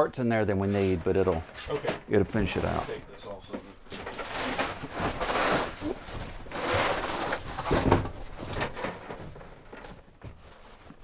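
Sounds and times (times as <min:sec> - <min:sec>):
boxes scraping and rustling: 0:00.4 - 0:11.0.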